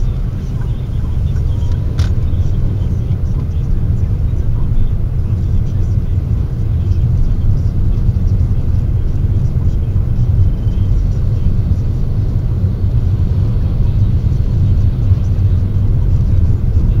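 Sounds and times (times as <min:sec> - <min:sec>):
car engine rumble inside cabin: 0:00.0 - 0:17.0.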